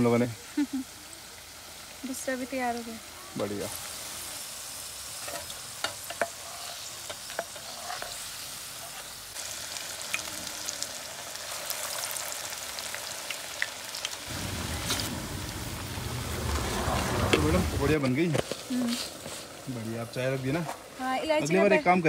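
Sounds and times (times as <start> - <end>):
oil sizzling with pops: 0.0 - 22.0.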